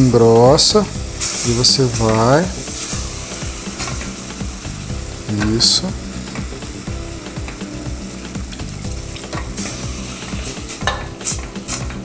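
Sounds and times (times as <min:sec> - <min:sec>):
light sizzle from pan: 0:00.0 - 0:12.0.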